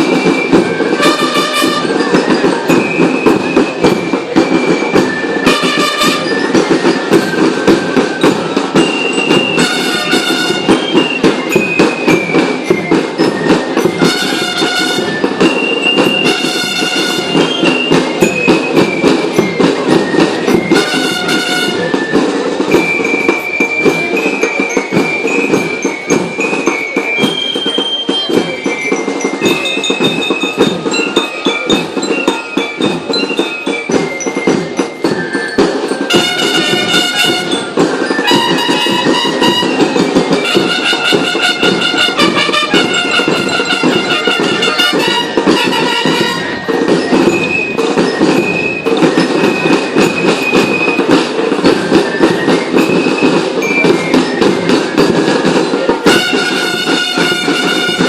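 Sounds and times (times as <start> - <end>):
fast drumming: 0.0 - 58.0
high bell-like melody: 0.0 - 58.0.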